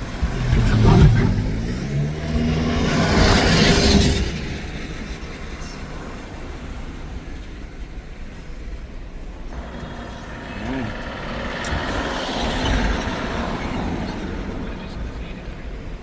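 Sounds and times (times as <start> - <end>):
large vehicle passing close: 0.0 - 8.0, 9.4 - 16.0
road noise from moving vehicle: 0.0 - 16.0.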